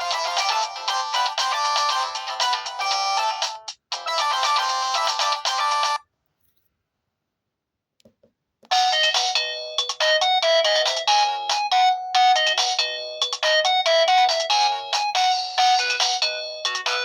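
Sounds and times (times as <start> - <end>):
fast electronic ringtone melody: 0.0 - 6.0, 8.7 - 17.0.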